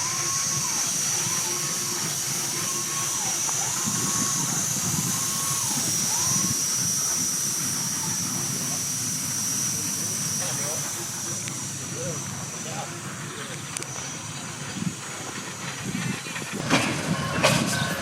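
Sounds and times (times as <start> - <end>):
high steam hiss: 0.0 - 18.0
steam engine running: 0.0 - 18.0.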